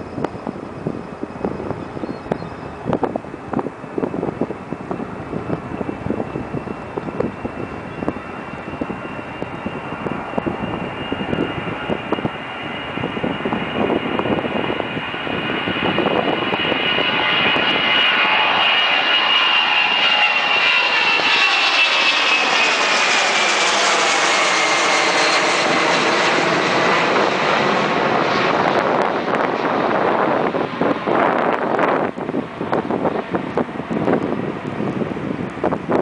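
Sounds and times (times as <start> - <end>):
high jet engine whine: 0.0 - 36.0
jet airliner taking off: 0.0 - 36.0.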